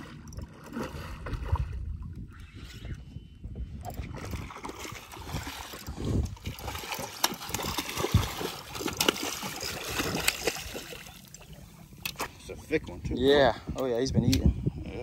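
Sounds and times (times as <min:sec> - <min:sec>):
water splashing and trickling: 0:00.0 - 0:02.8, 0:03.6 - 0:14.5.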